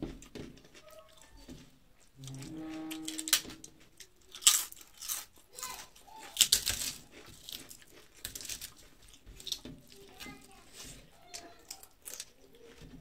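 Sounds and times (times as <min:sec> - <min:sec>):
crackling crunches on steel plate: 0:00.0 - 0:13.0.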